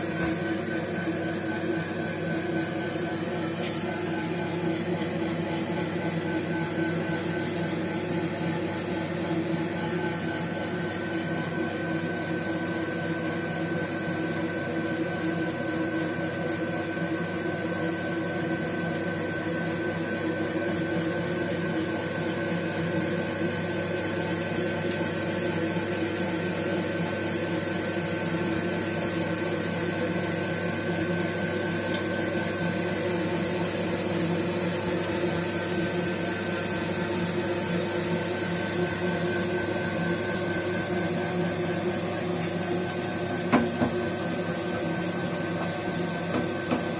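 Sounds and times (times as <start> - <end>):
gas boiler humming: 0.0 - 46.9.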